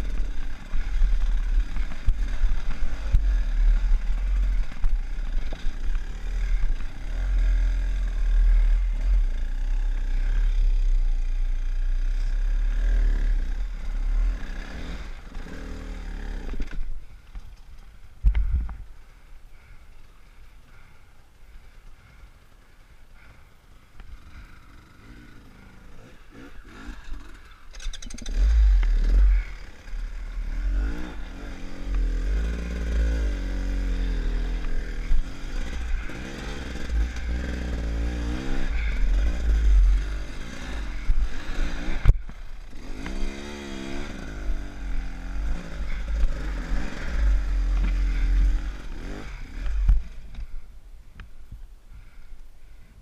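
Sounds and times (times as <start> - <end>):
dirt bike engine revving: 0.0 - 16.8, 24.2 - 50.3.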